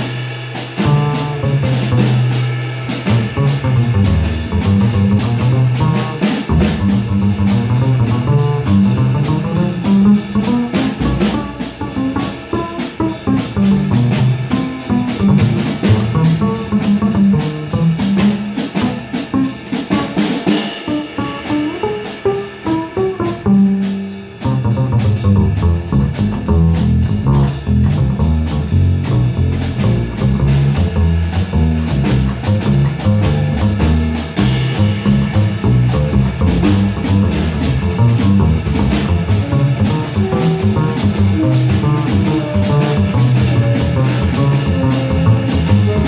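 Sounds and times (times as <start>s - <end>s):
drum kit: 0.0s - 46.0s
plucked double bass: 0.0s - 46.0s.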